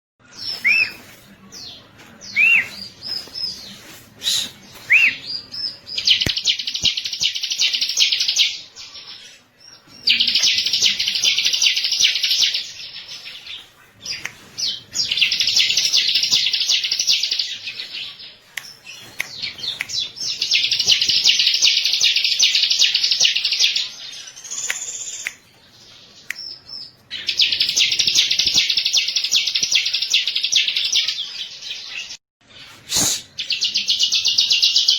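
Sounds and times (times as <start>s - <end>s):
bird chirps: 0.3s - 34.9s.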